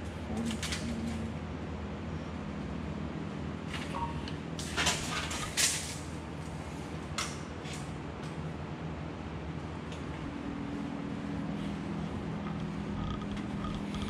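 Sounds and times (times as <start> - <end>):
low workshop hum: 0.0 - 14.0.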